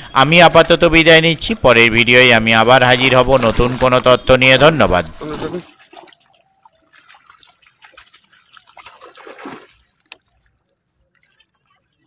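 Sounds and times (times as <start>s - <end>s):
pond water splashing and trickling: 0.6s - 12.0s.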